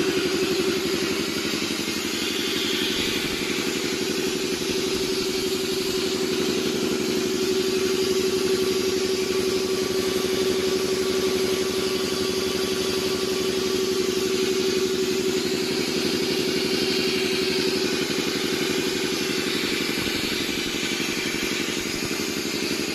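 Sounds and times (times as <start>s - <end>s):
air compressor running: 0.0s - 22.9s.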